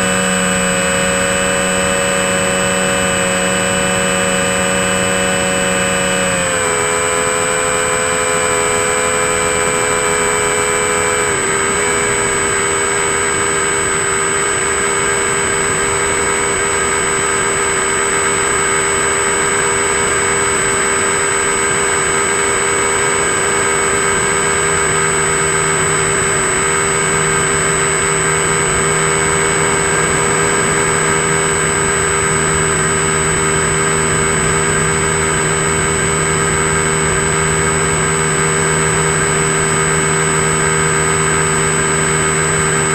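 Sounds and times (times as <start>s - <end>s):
model plane motor whining: 0.0s - 42.9s.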